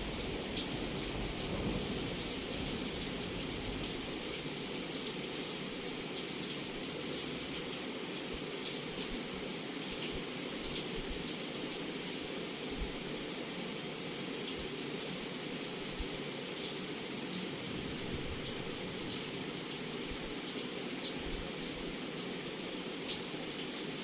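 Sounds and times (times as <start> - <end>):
heavy rain on a window: 0.0 - 24.0.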